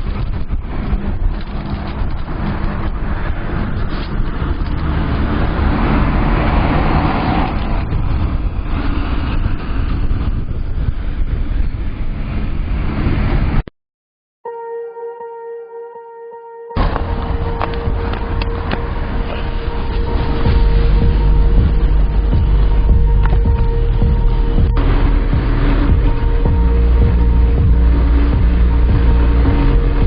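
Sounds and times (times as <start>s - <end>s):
bike road and wind rumble: 0.0s - 13.7s, 16.7s - 30.0s.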